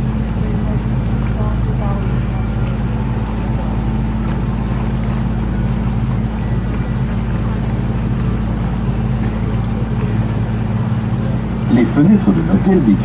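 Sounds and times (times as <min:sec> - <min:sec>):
boat engine droning: 0:00.0 - 0:13.0
water wash: 0:00.0 - 0:13.0.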